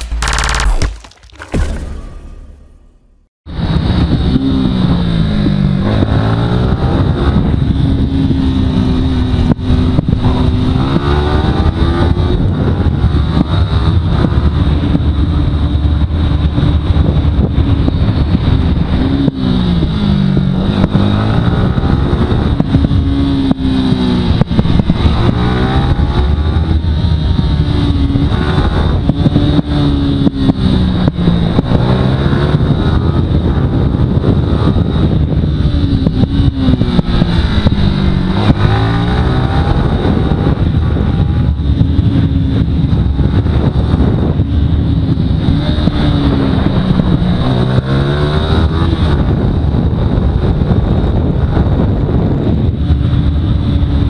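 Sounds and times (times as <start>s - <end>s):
wind noise: 3.5s - 54.0s
motorcycle engine revving: 3.6s - 54.0s.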